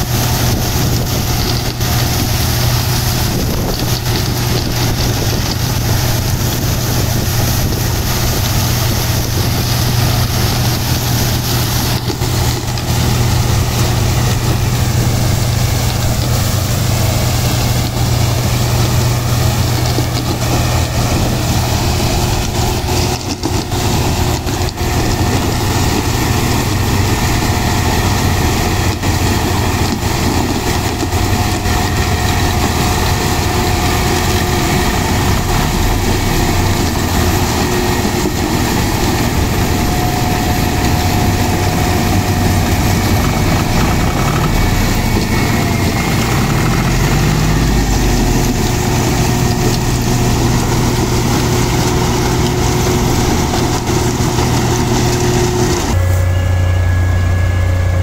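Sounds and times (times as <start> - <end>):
diesel engines and machinery: 0.0 - 58.0.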